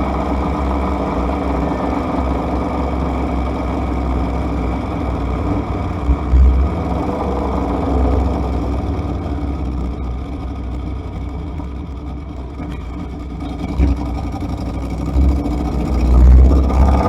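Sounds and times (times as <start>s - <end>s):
road and wind noise: 0.0s - 17.0s
vehicle rumbling on the move: 0.0s - 17.0s.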